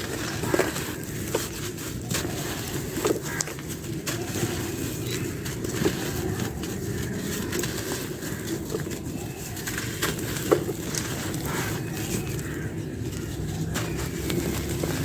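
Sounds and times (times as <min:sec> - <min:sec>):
dry clay crunching: 0:00.0 - 0:15.0
low background noise: 0:00.0 - 0:15.0.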